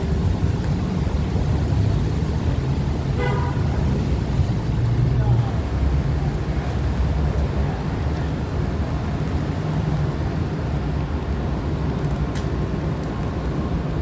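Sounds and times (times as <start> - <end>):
low city rumble: 0.0 - 14.0
rain hiss: 0.0 - 14.0.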